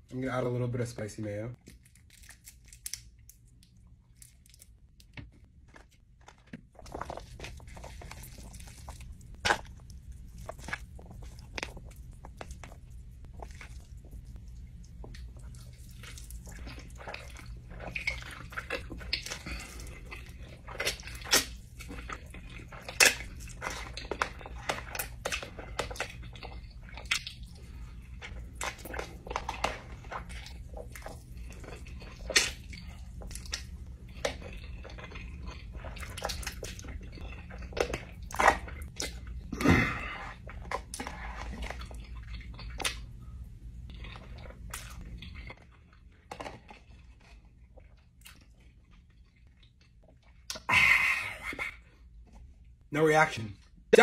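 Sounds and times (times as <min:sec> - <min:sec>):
faint low hum: 0:00.0 - 0:54.0
noodles slurped and chewed: 0:06.2 - 0:52.4.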